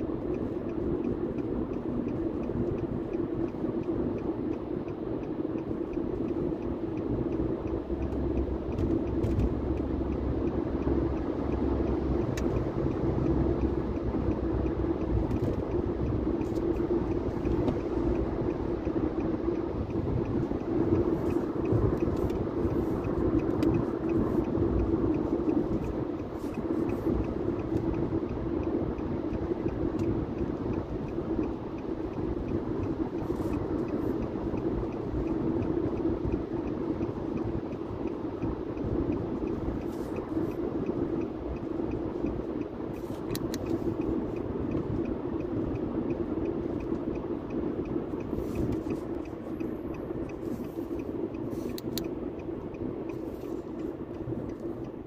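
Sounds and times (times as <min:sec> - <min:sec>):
car cabin road and engine noise: 0:00.0 - 0:55.0.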